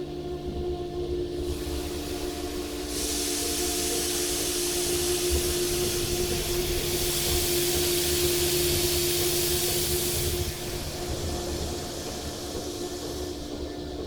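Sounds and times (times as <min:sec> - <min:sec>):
water spray hissing on car: 0:01.5 - 0:13.1.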